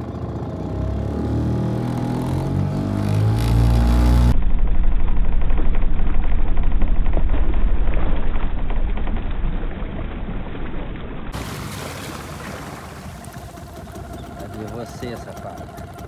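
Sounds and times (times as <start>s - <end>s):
boat outboard motor rumbling: 0.0s - 16.0s.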